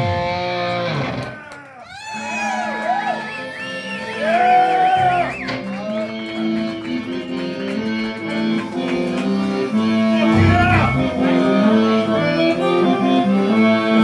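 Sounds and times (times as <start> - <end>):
live band with electric guitar: 0.0 - 14.0.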